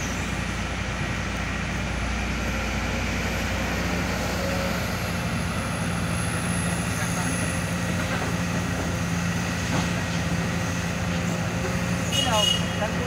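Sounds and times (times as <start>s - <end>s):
dump truck engine: 0.0s - 13.0s
excavator diesel engine: 0.0s - 13.0s.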